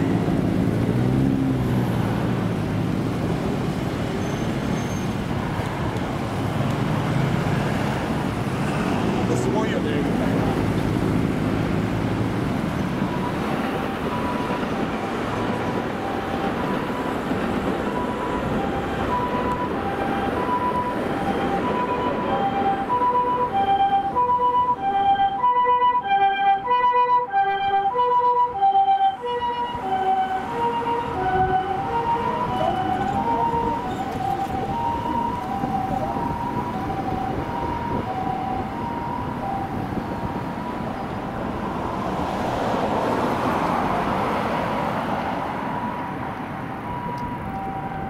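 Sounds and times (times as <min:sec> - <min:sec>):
road traffic noise: 0:00.0 - 0:48.0
two-tone ambulance siren: 0:07.0 - 0:10.8, 0:11.6 - 0:48.0.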